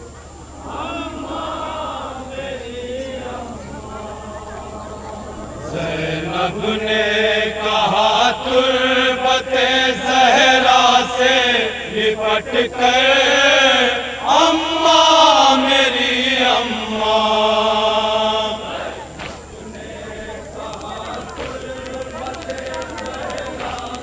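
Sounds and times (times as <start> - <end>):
men chanting a lament: 0.5 - 24.0.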